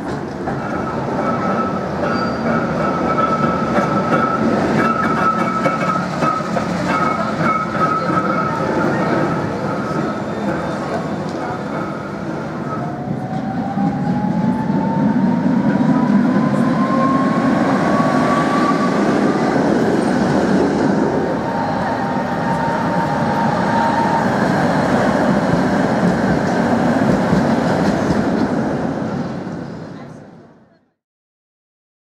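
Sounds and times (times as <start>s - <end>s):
tram wheels rumbling on rails: 0.0s - 30.6s
tram motor whine: 0.6s - 29.7s.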